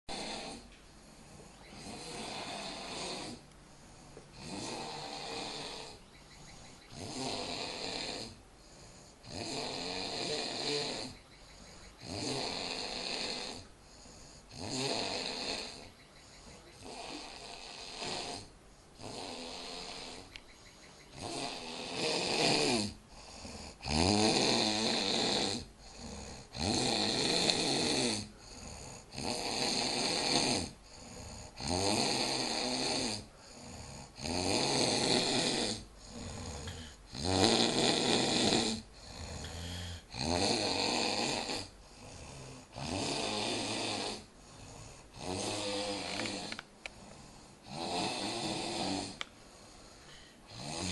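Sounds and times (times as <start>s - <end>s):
person snoring: 0.1s - 11.2s, 11.9s - 15.9s, 16.5s - 20.4s, 21.1s - 50.9s.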